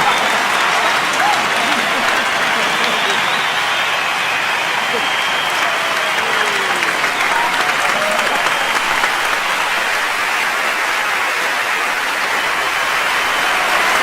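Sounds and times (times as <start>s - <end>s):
cheers and shouts: 0.0s - 14.0s
crowd applauding: 0.0s - 14.0s.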